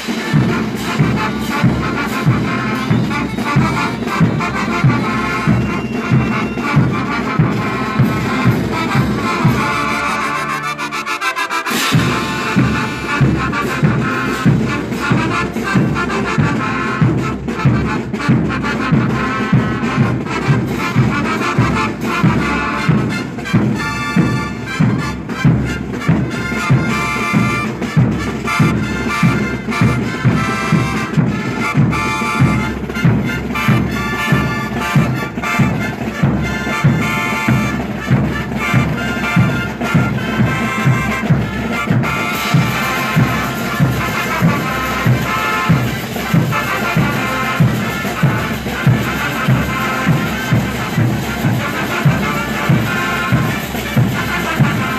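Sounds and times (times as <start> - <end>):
brass band music: 0.0 - 54.9.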